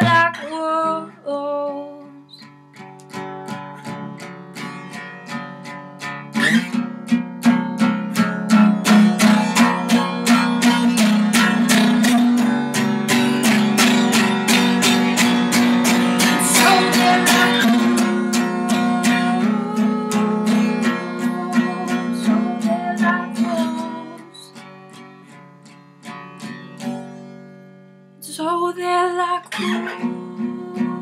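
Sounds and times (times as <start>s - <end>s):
acoustic guitar strumming: 0.0s - 1.2s, 2.2s - 31.0s.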